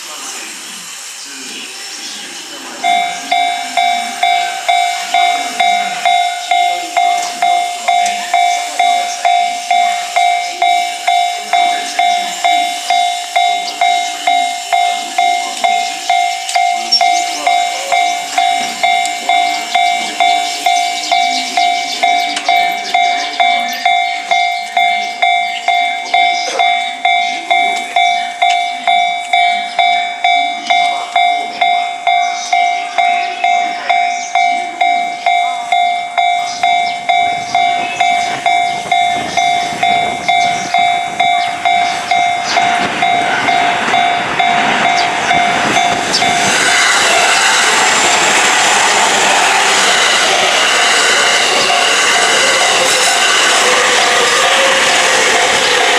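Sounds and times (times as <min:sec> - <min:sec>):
electric train passing: 0:00.0 - 0:55.9
level crossing warning bell ringing: 0:00.0 - 0:55.9.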